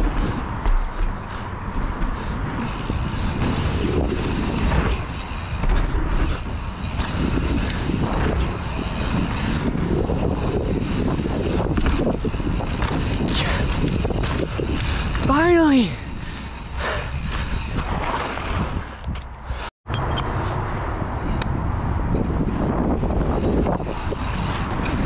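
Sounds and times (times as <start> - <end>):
bike knocks and rattles: 0.0 - 20.2
wind rushing over microphone: 0.0 - 25.0.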